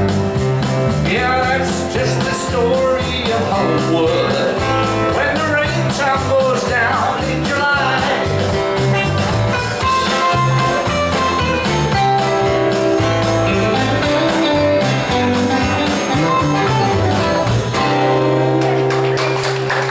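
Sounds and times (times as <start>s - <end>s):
country ballad guitar: 0.0s - 19.4s.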